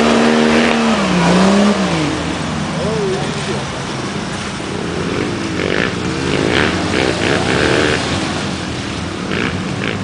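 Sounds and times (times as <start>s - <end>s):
engine revving: 0.0s - 10.0s
engines idling: 0.0s - 10.0s.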